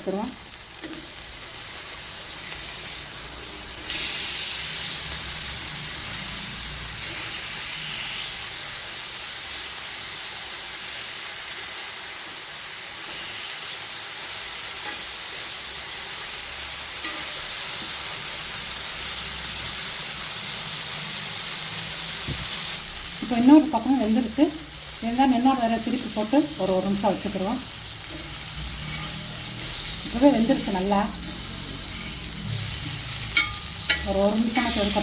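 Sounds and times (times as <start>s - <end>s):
chicken sizzling in oil: 0.0s - 35.0s.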